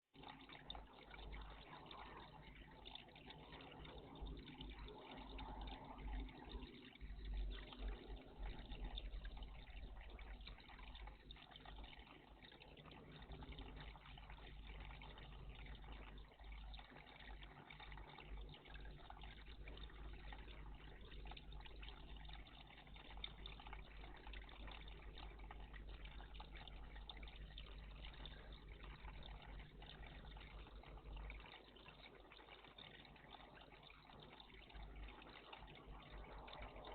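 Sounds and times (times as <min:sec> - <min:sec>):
water trickling and splashing: 0:00.2 - 0:36.9.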